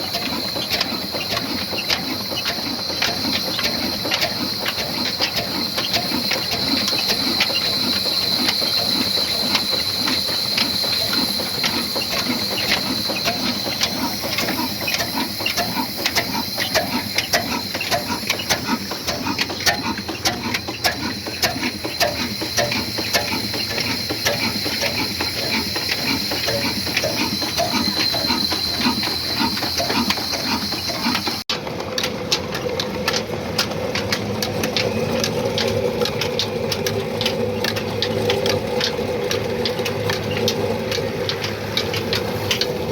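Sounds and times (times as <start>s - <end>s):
slow diesel engine knocking: 0.0s - 42.9s
steady engine hum: 0.0s - 42.9s.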